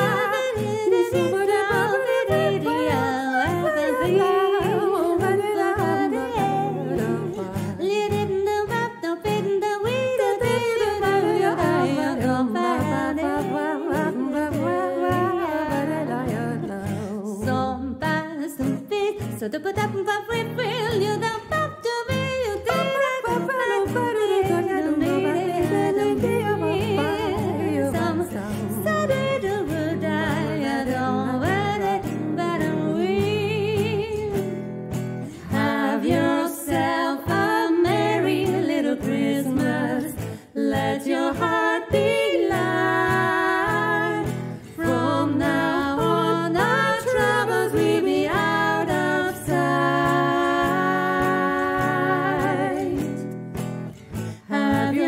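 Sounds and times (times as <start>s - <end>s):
women singing without words: 0.0s - 34.6s, 35.2s - 55.0s
plucked acoustic guitar: 0.0s - 55.0s.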